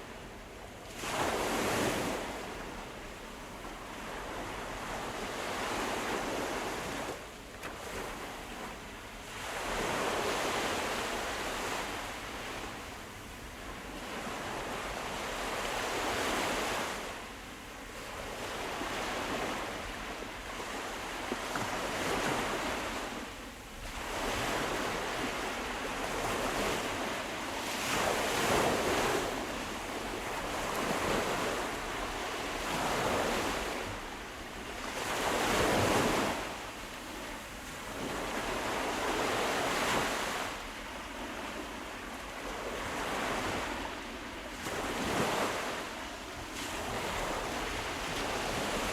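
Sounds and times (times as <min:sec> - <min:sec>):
sea waves breaking on shore: 0:00.0 - 0:48.9.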